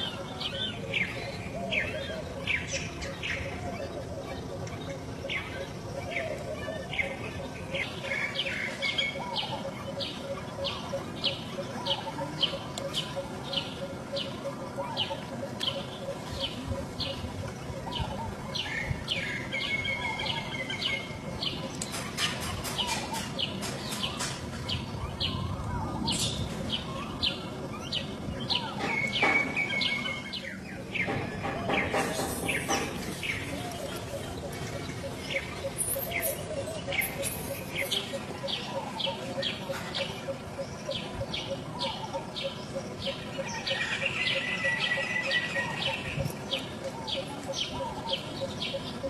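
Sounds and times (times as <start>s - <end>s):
bird chirping: 0.0s - 49.0s.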